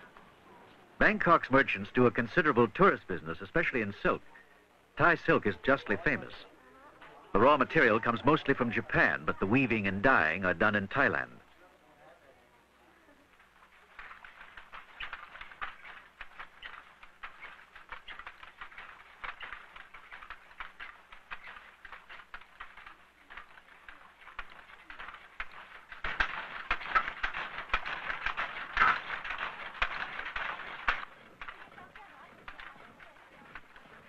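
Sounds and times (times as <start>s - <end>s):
wooden looms clattering: 1.0s - 4.4s, 5.0s - 11.4s, 13.2s - 34.0s.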